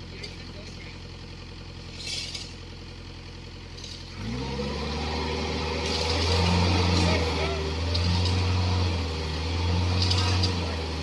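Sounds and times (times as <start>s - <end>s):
excavator diesel engine revving: 0.0s - 11.0s.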